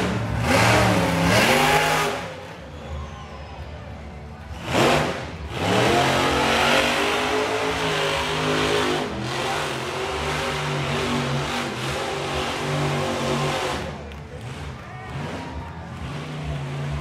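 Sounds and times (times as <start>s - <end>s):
truck engine revving: 0.0s - 2.9s, 4.4s - 17.0s.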